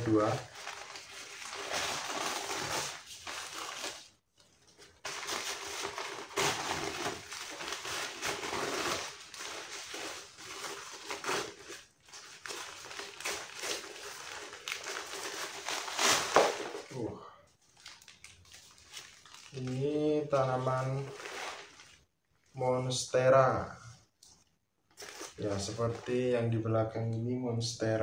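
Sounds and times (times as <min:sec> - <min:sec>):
paper wrapping rustling: 0:00.0 - 0:22.1, 0:24.9 - 0:26.4.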